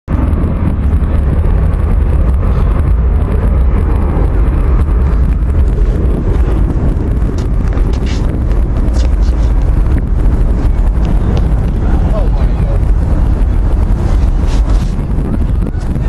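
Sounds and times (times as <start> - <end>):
wind buffeting microphone: 0.1 - 16.0.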